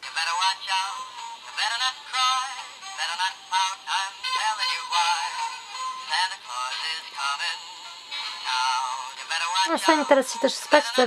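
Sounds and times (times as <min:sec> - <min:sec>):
toy playing electronic song: 0:00.0 - 0:11.0.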